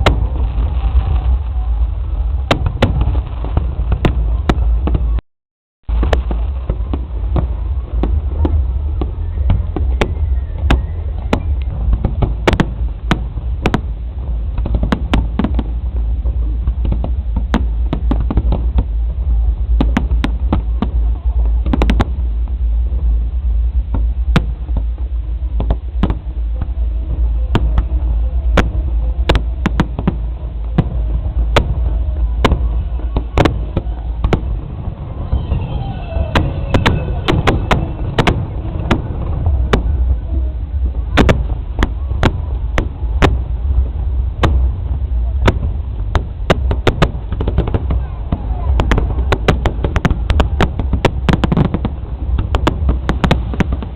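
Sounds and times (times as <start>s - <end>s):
fireworks popping and crackling: 0.0s - 5.2s, 5.8s - 53.9s
deep rumble: 0.0s - 53.9s.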